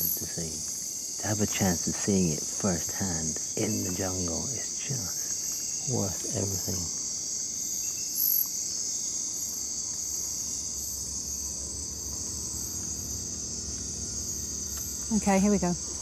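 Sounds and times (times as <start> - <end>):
insect chirps: 0.0 - 16.0
insect trill: 0.0 - 16.0.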